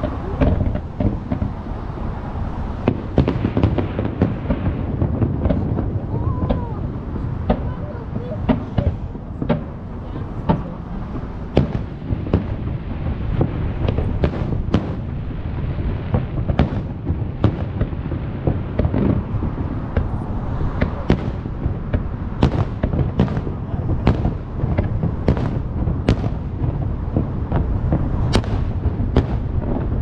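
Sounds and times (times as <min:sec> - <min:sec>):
fireworks bursting with sharp bangs: 0:00.0 - 0:30.0
low rumble of explosions: 0:00.0 - 0:30.0.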